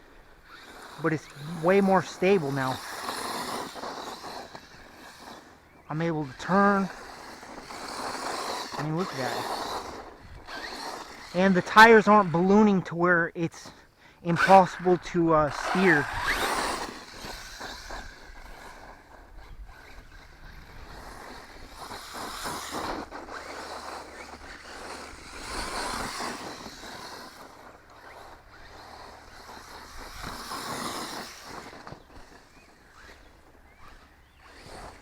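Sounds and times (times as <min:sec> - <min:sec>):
rc truck motor and tires rushing: 0:00.0 - 0:35.0.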